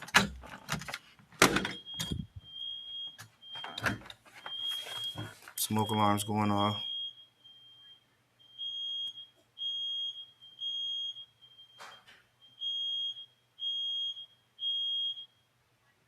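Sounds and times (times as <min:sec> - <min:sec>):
smoke alarm beeps: 0:01.5 - 0:15.5
faint alarm beep: 0:01.7 - 0:03.8, 0:04.4 - 0:15.5.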